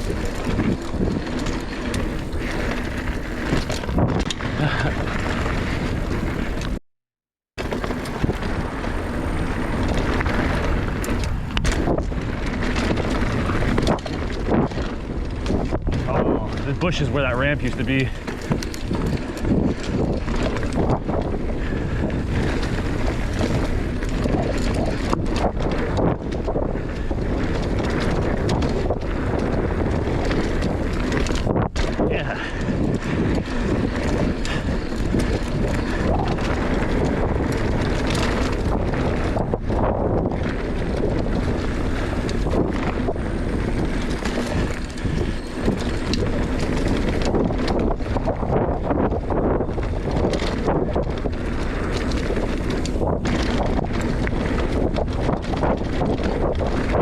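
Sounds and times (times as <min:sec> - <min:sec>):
bike clicks and rattles: 0:00.0 - 0:06.8, 0:07.6 - 0:57.0
tyres rolling over dirt trail: 0:00.0 - 0:06.8, 0:07.6 - 0:57.0
wind rushing over microphone: 0:00.0 - 0:06.8, 0:07.6 - 0:57.0.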